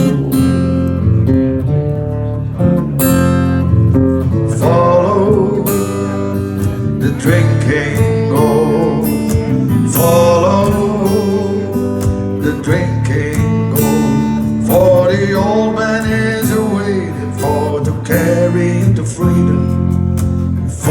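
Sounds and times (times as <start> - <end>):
strummed acoustic guitar: 0.0 - 20.9.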